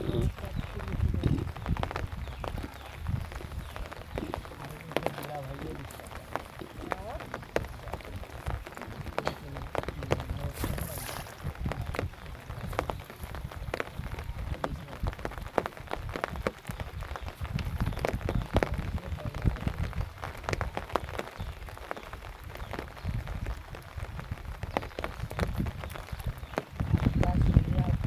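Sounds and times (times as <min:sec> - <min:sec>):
water splashing and dripping: 0:00.0 - 0:28.0.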